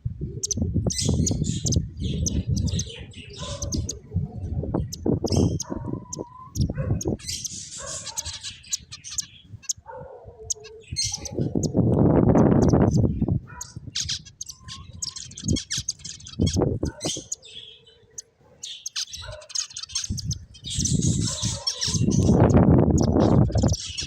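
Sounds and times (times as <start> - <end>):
finches chirping: 0.4 - 4.1, 4.7 - 24.0.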